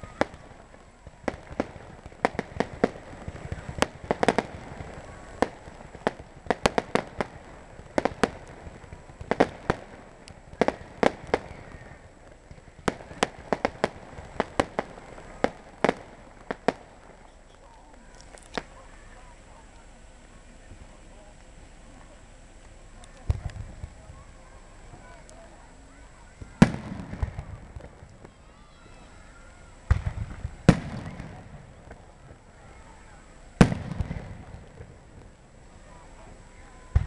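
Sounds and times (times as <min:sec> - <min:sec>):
fireworks bangs and cracks: 0:00.0 - 0:37.0.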